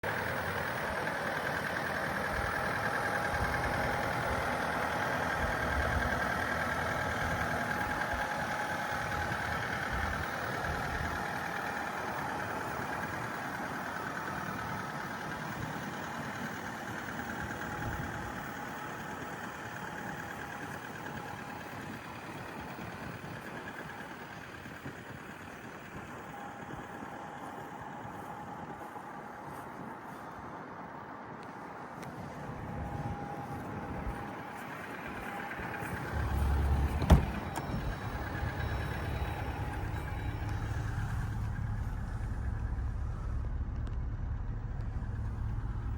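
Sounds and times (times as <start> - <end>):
vehicle engine running with whine: 0.0 - 45.9.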